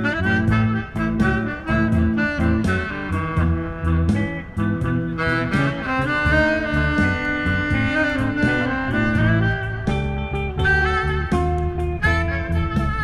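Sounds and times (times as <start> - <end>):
bass line: 0.0 - 13.0
saxophone music: 0.0 - 13.0.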